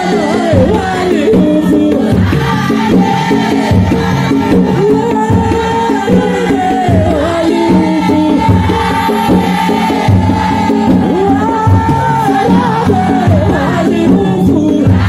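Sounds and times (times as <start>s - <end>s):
percussion beat: 0.0s - 15.0s
women singing in unison: 0.0s - 15.0s.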